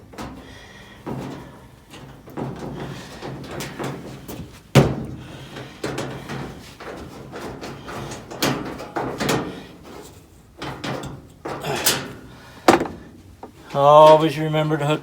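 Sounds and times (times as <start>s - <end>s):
sheet metal panels clunking: 0.0s - 15.0s.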